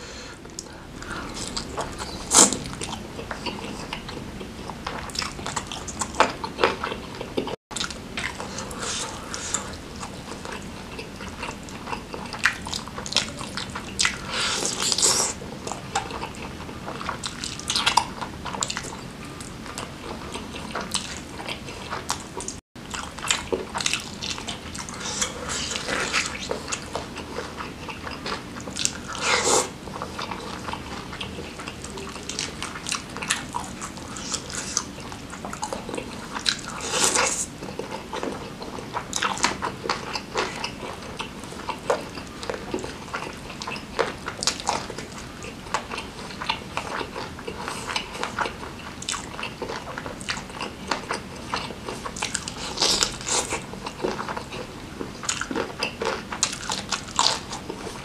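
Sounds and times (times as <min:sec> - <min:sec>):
person chewing and slurping: 0:00.0 - 0:58.0.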